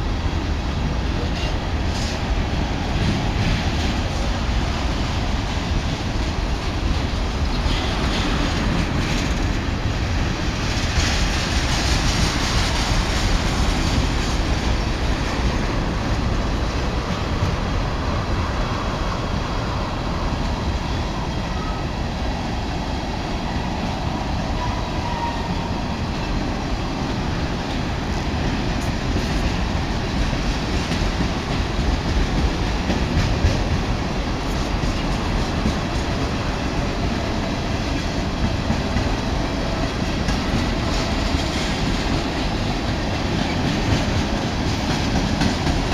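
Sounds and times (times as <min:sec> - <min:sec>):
freight train wheels rumbling on rails: 0:00.0 - 0:45.9.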